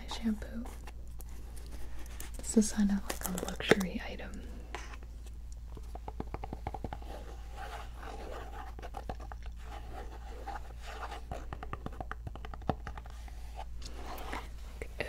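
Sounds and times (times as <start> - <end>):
scratchy packaging rustling: 0.0 - 14.8.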